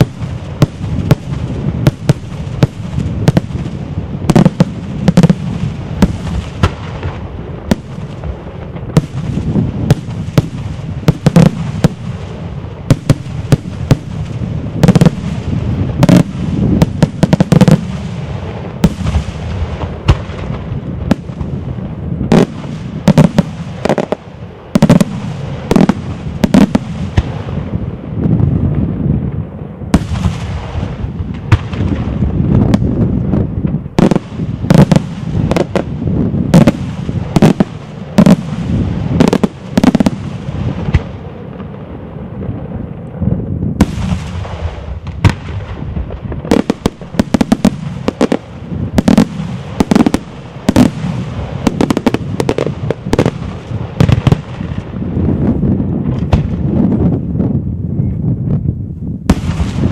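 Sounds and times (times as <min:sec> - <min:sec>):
fireworks bangs: 0:00.0 - 0:58.6, 0:59.2 - 0:59.9.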